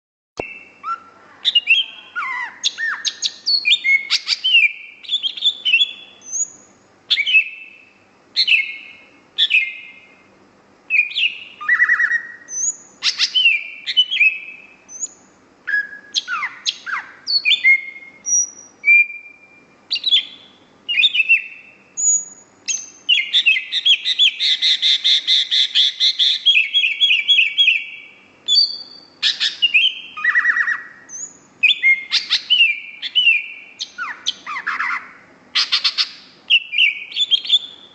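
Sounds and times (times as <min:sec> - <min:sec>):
bird whistling and chirping: 0:00.4 - 0:10.2, 0:10.9 - 0:37.9.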